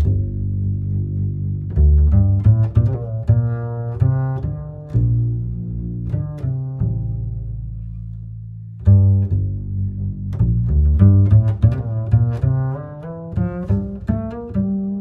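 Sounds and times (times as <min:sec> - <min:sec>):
deep bass line: 0:00.0 - 0:15.0
low string notes: 0:00.0 - 0:15.0.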